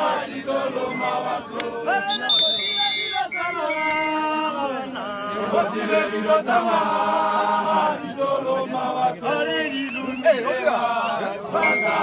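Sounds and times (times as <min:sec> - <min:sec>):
group singing choral chant: 0:00.0 - 0:12.0.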